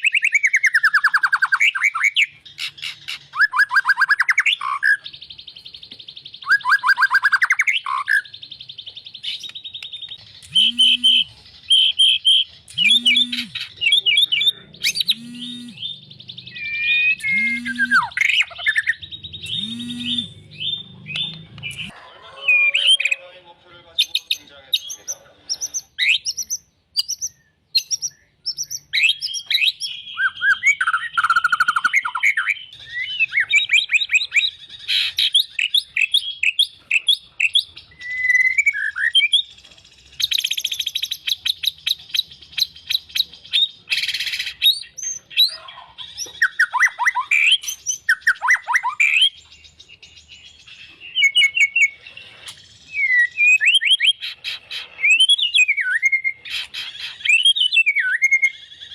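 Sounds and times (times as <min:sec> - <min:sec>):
bird singing varied song: 0:00.0 - 0:58.9.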